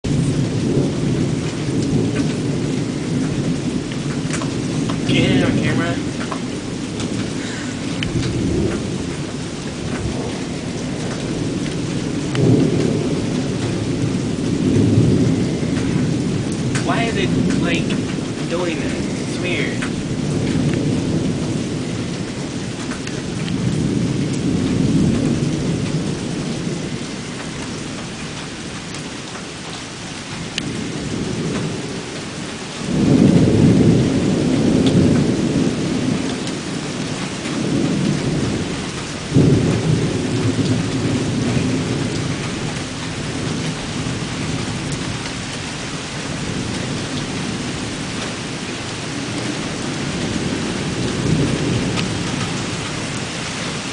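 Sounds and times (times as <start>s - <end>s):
loud thunder crack: 0.0s - 28.0s, 32.8s - 45.2s, 46.2s - 53.8s
steady rain: 0.0s - 53.9s
thunder rumbling: 0.0s - 53.9s.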